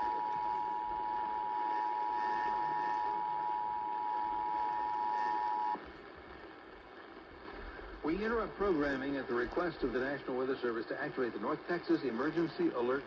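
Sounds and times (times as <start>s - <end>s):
faint radio static: 0.0s - 13.0s.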